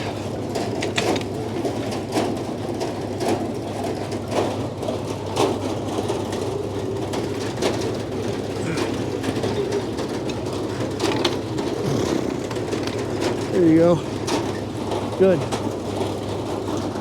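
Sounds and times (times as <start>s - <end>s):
sawmill running: 0.0s - 17.0s.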